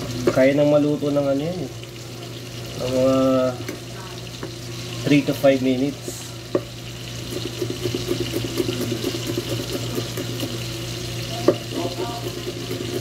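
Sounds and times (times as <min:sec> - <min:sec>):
butter sizzling in frying pan: 0:00.0 - 0:13.0.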